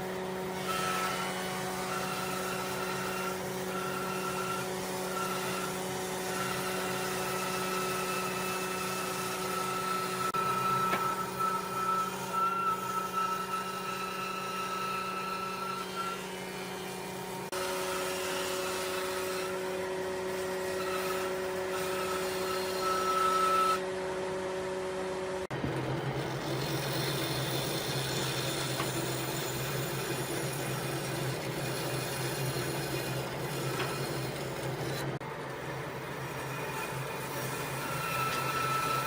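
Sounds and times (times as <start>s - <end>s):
woodworking power tools humming: 0.0s - 39.0s.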